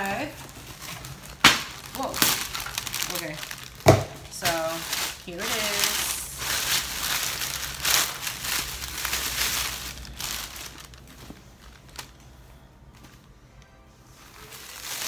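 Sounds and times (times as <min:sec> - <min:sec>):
plastic bag crinkling: 0:00.0 - 0:12.3, 0:14.2 - 0:15.0.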